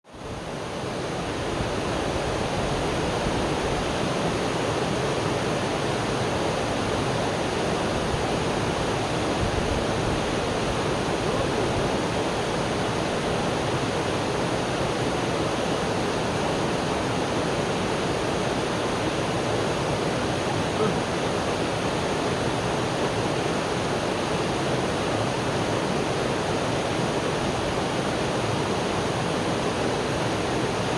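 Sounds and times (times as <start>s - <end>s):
rushing water: 0.1s - 30.9s.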